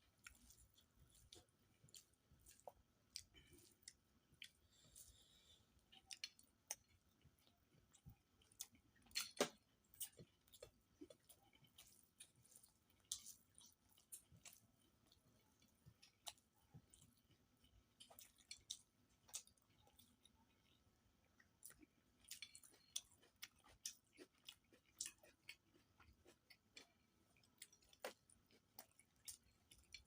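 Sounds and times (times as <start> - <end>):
person chewing with mouth smacks: 0.0 - 30.0.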